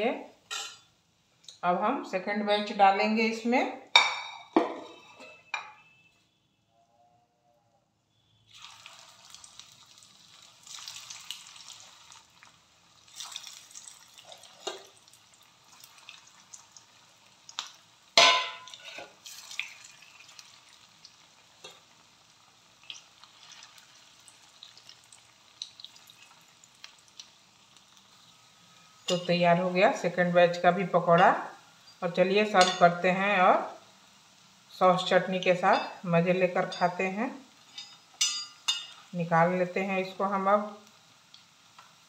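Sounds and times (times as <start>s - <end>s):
deep-frying sizzle with crackles: 8.1s - 42.0s.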